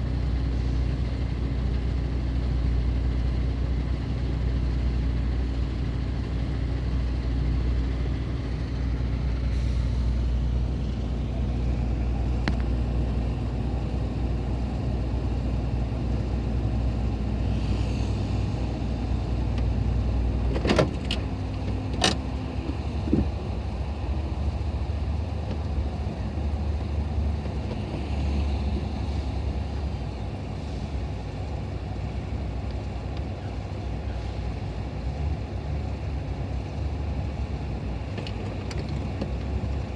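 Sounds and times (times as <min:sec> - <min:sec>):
vehicle engines idling: 0:00.0 - 0:39.9.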